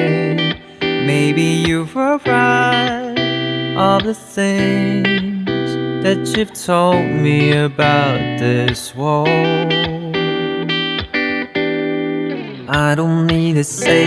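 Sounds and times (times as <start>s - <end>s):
calm guitar music: 0.0s - 14.0s.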